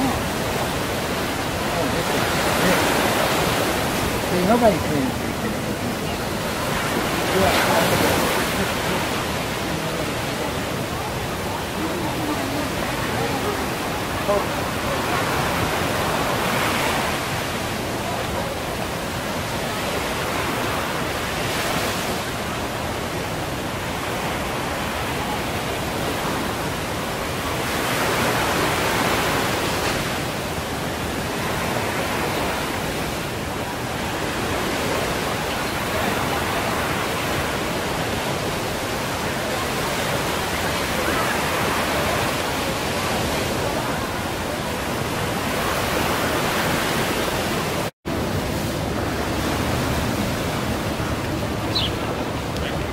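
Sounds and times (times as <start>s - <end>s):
waves breaking on beach: 0.0s - 52.9s.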